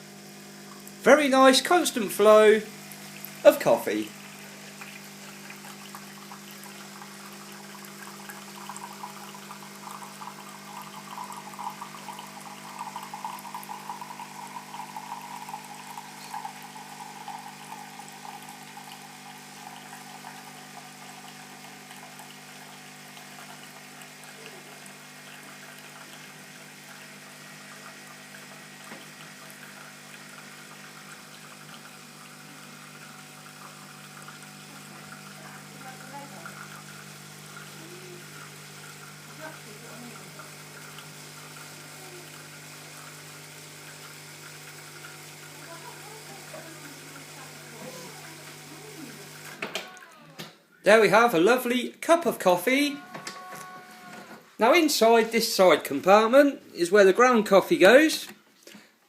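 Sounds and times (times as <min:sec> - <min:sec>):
coffee machine hum: 0:00.0 - 0:50.0
coffee pouring into a cup: 0:00.0 - 0:50.1.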